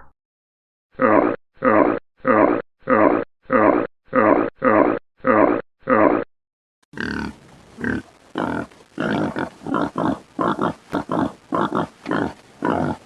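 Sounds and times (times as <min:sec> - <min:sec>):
pig grunting: 0:01.0 - 0:06.3, 0:07.0 - 0:13.0.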